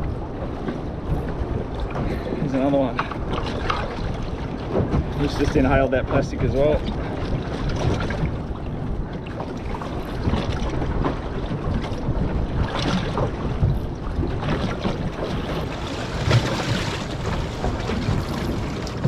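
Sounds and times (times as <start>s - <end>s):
waves washing: 0.0s - 19.0s
wind buffeting microphone: 0.0s - 19.0s.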